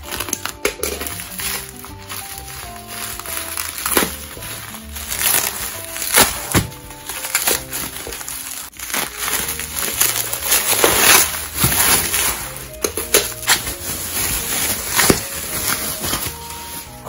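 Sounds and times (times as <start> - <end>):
bubble wrap crinkling: 0.0 - 17.0
light background music: 0.0 - 17.0.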